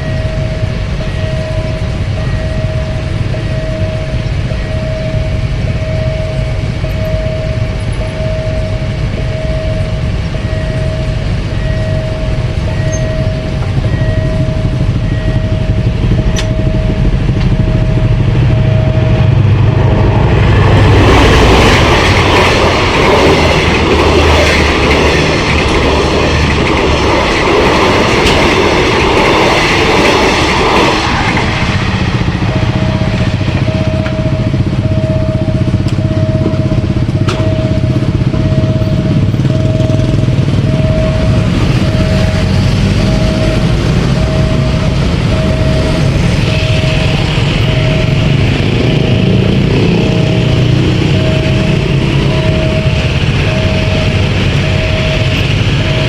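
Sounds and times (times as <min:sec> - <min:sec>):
level crossing alarm beeping: 0:00.0 - 0:56.0
train wheels on rails: 0:00.0 - 0:56.0.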